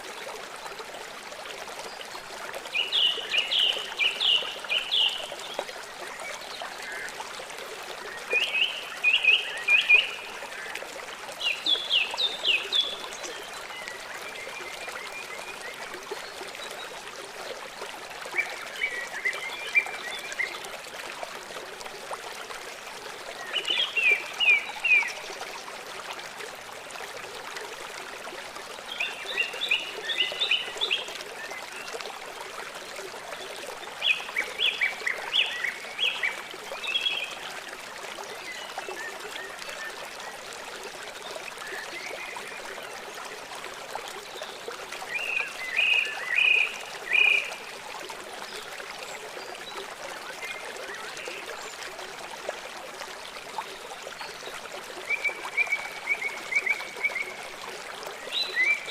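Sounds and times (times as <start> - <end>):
trickle of running water: 0.0 - 58.9.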